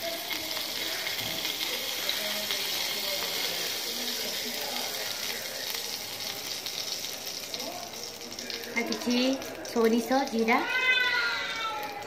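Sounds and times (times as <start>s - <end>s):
seeds sizzling in hot oil: 0.0s - 12.0s.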